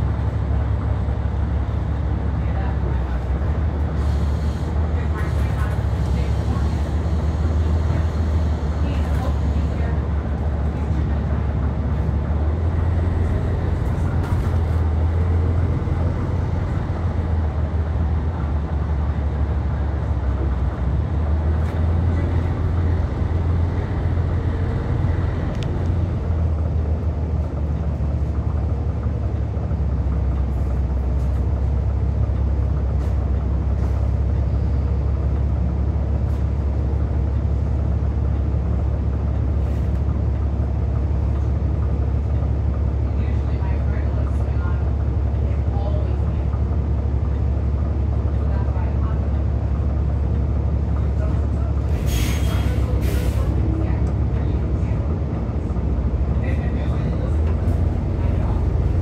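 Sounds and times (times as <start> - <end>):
bus drivetrain drone: 0.0 - 59.0
road noise: 0.0 - 59.0.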